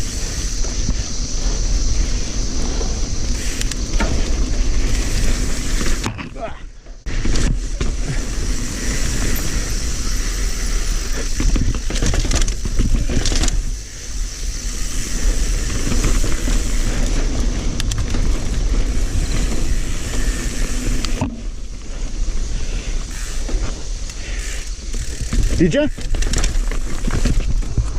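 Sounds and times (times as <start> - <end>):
bike rattling and knocking: 0.0 - 27.9
bike tyre noise: 0.0 - 27.9
wind rumble on microphone: 0.0 - 27.9.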